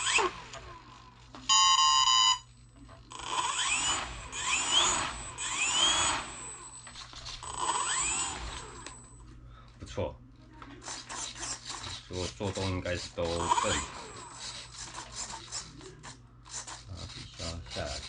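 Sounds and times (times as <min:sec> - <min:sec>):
servos whirring: 0:00.0 - 0:01.5, 0:03.1 - 0:09.2, 0:10.8 - 0:18.0.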